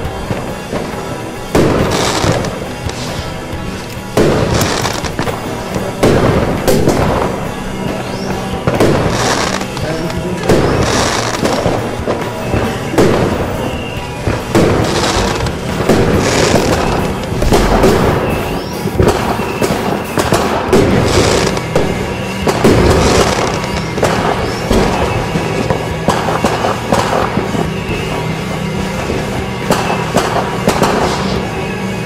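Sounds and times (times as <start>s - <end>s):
background music: 0.0s - 32.0s
fireworks bursting and crackling: 0.0s - 32.0s.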